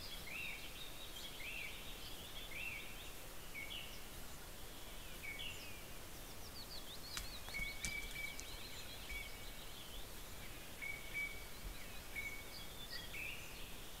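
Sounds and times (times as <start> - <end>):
songbirds chirping and warbling: 0.0 - 14.0.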